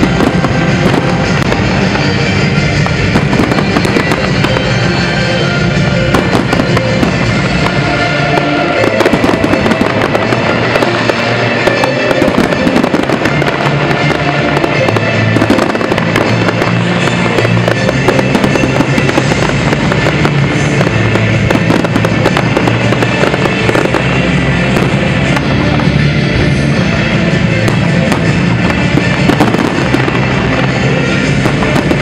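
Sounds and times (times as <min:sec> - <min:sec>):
fireworks crackling and popping: 0:00.0 - 0:32.0
loud music: 0:00.0 - 0:32.0.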